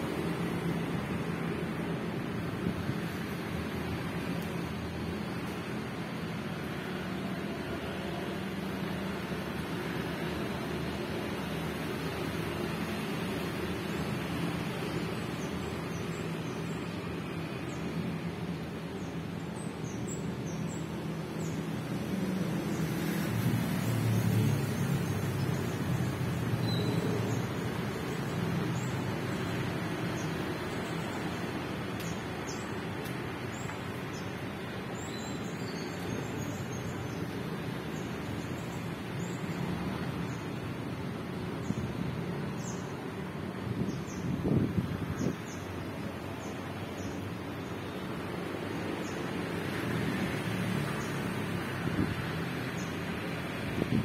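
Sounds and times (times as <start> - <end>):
passing vehicles: 0.0 - 54.0
road traffic hum: 0.0 - 54.0
small birds chirping: 8.9 - 54.0.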